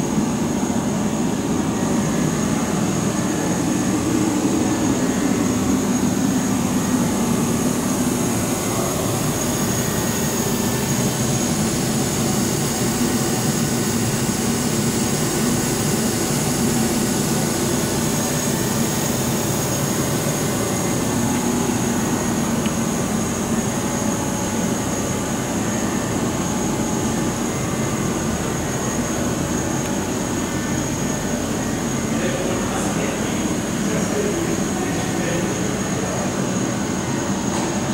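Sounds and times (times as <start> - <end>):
high machine whine: 0.0 - 37.9.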